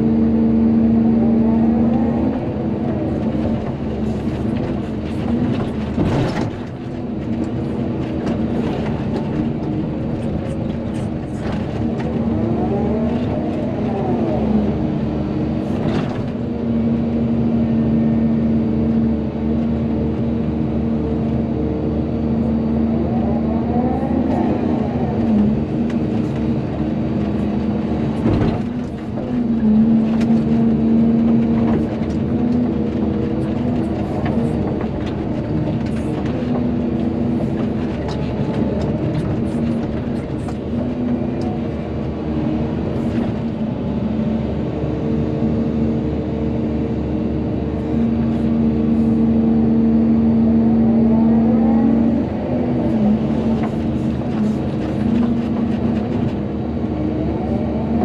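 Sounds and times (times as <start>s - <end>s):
excavator engine under load: 0.0s - 58.0s.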